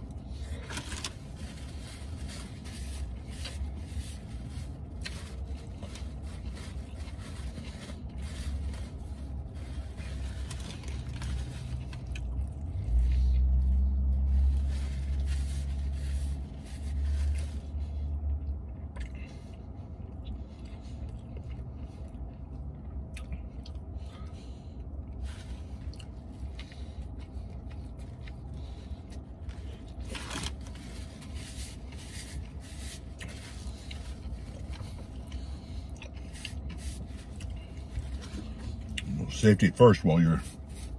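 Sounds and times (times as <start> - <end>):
person chewing food: 0.0 - 15.9, 16.9 - 39.1
low vehicle rumble: 0.0 - 40.9.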